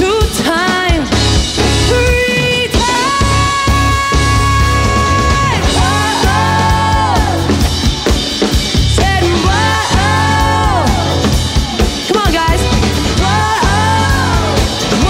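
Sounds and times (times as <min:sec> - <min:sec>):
bass: 0:00.0 - 0:15.0
drum kit: 0:00.0 - 0:15.0.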